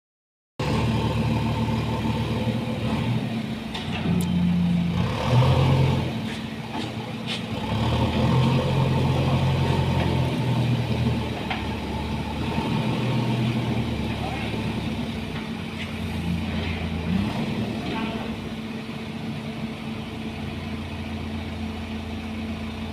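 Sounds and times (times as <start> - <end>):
diesel engine running: 0.6 - 22.9.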